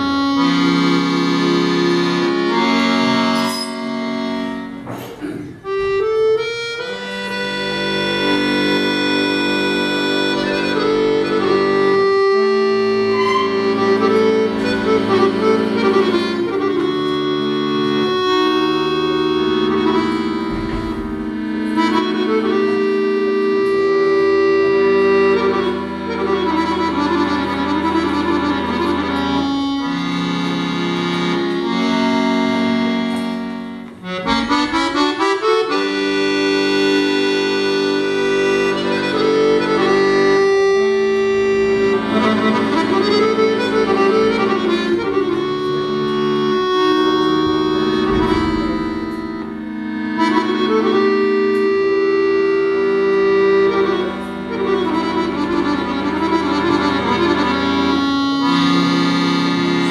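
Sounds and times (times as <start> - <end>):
accordion folk dance tune: 0.0 - 59.9.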